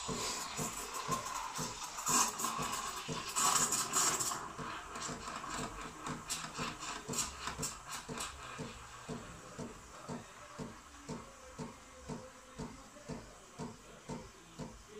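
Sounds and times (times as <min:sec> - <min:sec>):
steam wand hissing: 0:00.0 - 0:14.2.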